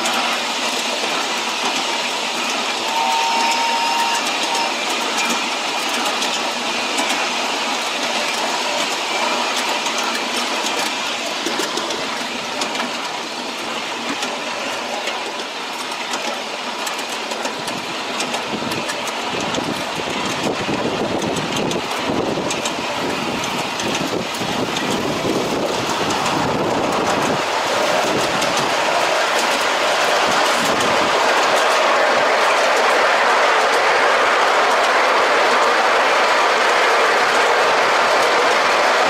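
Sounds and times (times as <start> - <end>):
train wheels rolling on track: 0.0 - 39.0
clicks over rail joints: 4.2 - 39.0.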